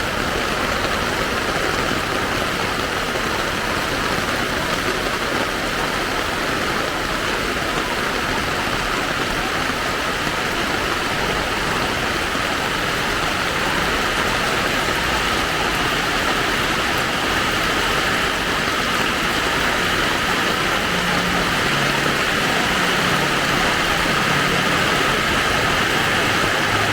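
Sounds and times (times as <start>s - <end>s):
motor traffic: 0.0s - 26.9s
rain falling in street: 0.0s - 26.9s.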